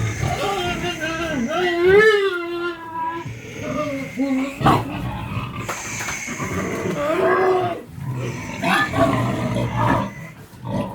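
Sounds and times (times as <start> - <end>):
pigs grunting and squealing: 0.0 - 10.9.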